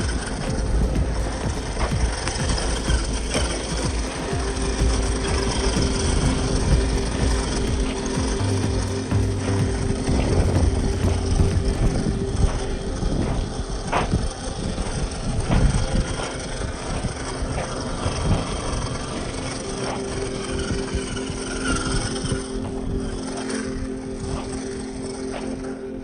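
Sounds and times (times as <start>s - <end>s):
electric motor and gears whining: 0.0s - 26.0s.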